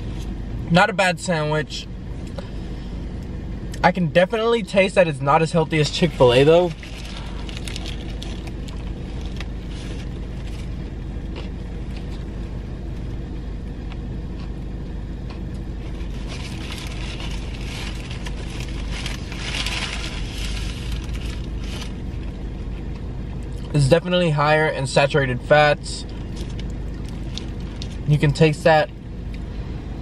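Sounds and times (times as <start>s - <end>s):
car idling hum: 0.0s - 30.0s.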